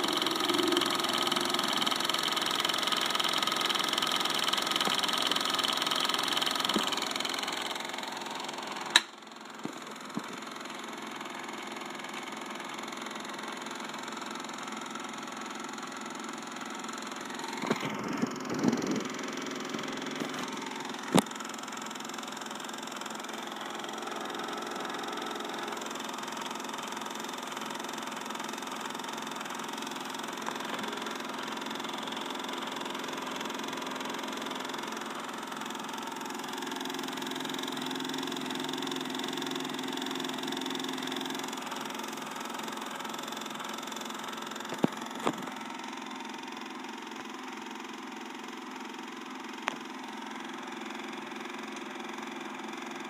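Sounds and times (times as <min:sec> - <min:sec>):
film projector humming: 0:00.0 - 0:53.0.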